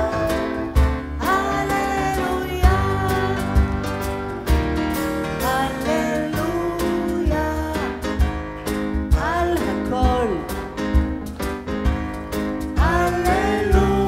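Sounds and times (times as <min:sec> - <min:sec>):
live band playing instrumental: 0:00.0 - 0:14.0.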